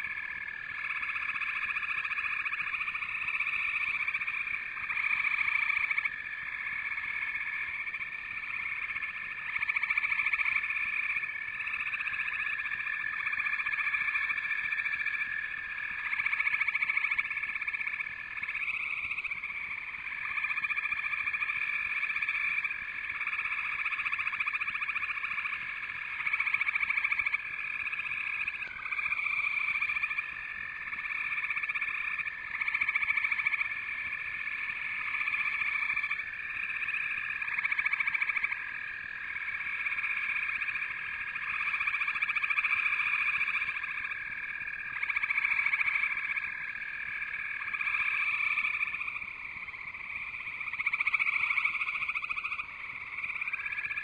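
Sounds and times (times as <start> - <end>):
chorus of frogs calling: 0.0 - 54.0.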